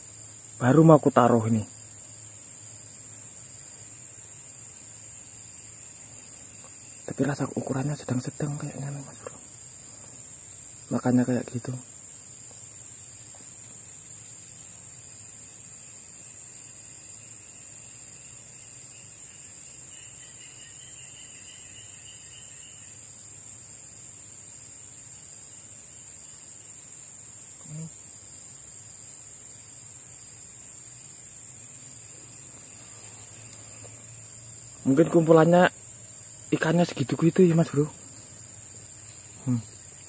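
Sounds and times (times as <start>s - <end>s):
high-pitched insect drone: 0.0s - 40.0s
pulsing insect call: 0.0s - 40.0s.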